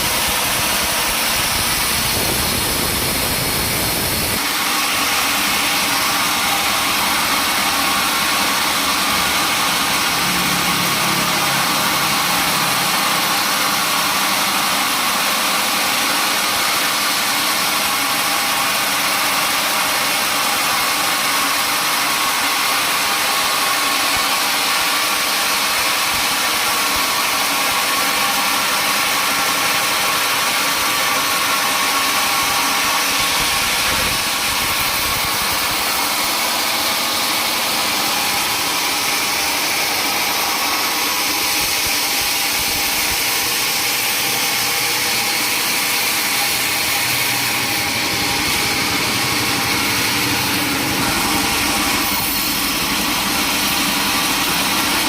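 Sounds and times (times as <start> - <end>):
high machine whine: 0.0 - 55.0
sawmill machinery drone: 0.0 - 55.0.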